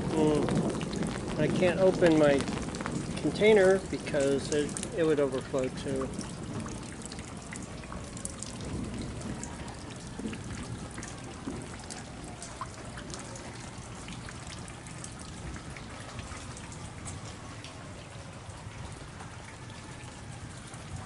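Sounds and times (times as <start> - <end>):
rain falling: 0.0 - 21.0
raindrops hitting close by: 0.0 - 21.0
water trickling: 0.0 - 21.0.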